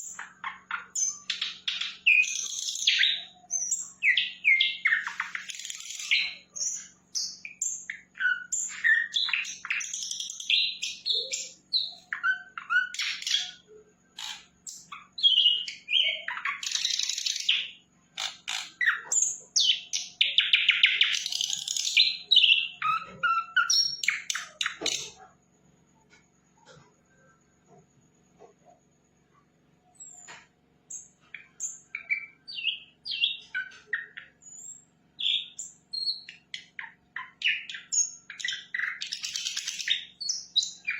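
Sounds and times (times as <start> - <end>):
flycatcher singing: 0.0 - 25.3, 29.9 - 40.9.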